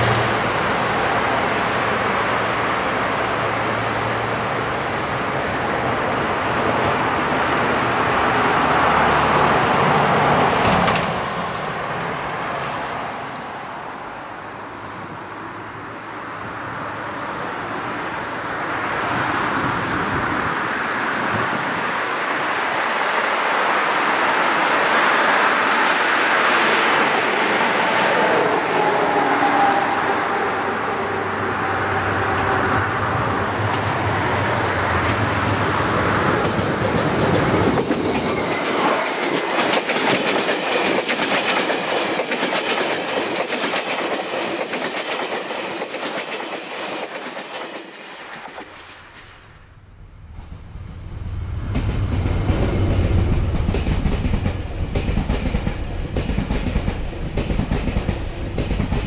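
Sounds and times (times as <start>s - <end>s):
passing train noise: 0.0s - 59.0s.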